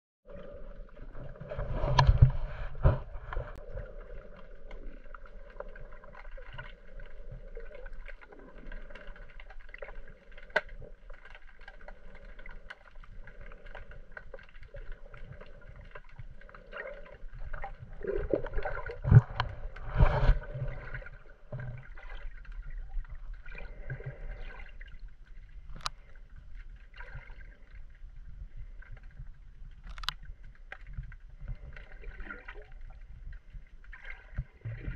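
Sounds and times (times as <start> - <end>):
underwater sloshing and gurgling: 0.3 - 34.9
underwater splashes and thuds: 0.3 - 34.9.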